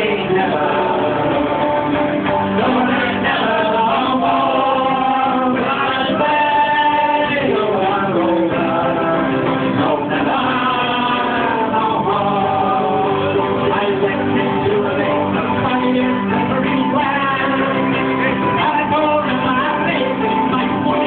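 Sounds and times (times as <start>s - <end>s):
live band playing folk music: 0.0s - 21.0s
person singing: 0.0s - 21.0s.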